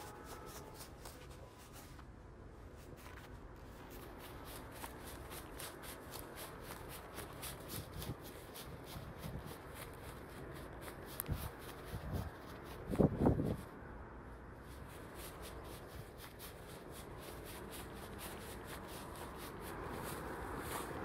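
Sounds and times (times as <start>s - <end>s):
footsteps through grass: 0.0s - 21.0s.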